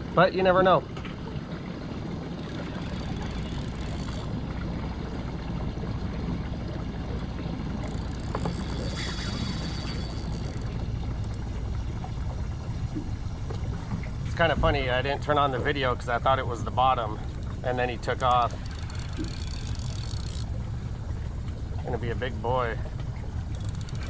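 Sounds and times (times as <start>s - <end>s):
wind and water around a boat: 0.0s - 24.0s.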